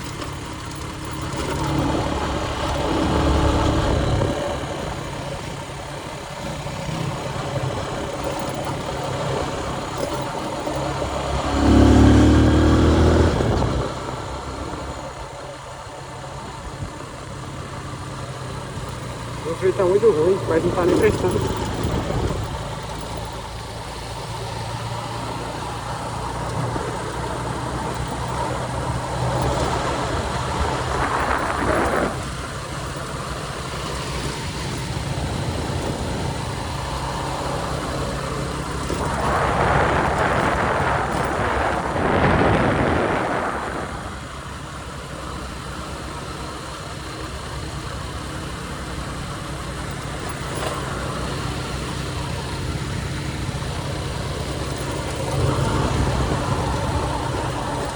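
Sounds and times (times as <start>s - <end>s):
motorcycle engine running: 0.0s - 57.9s
traffic going by: 0.0s - 57.9s.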